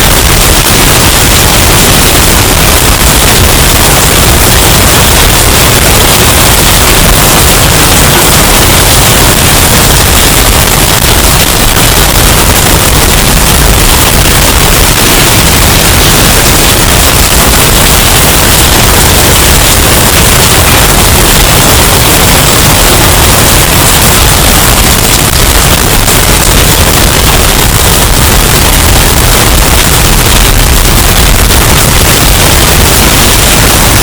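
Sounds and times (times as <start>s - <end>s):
distorted storm noise: 0.0s - 34.0s.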